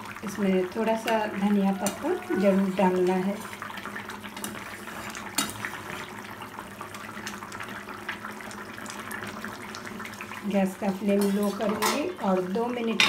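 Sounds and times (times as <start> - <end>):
curry bubbling: 0.0 - 13.0.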